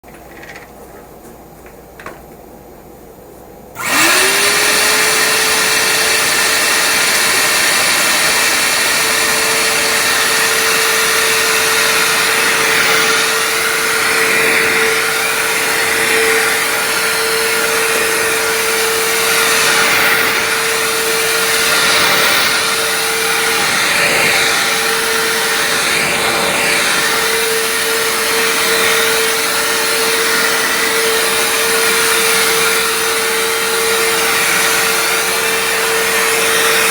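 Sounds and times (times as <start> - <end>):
floor cleaner motor whine and hiss: 0.1 - 36.9.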